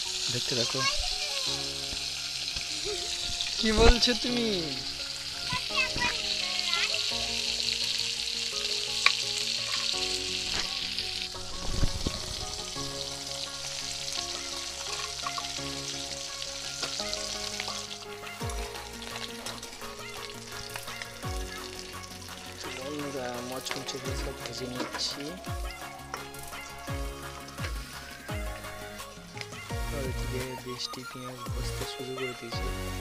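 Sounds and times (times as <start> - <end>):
fish frying in hot oil: 0.0 - 33.0.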